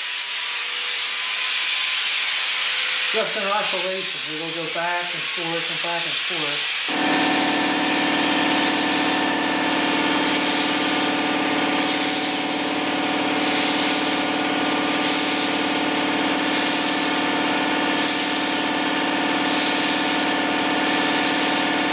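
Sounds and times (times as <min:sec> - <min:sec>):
hiss of air: 0:00.0 - 0:21.9
air motor humming: 0:03.1 - 0:21.9.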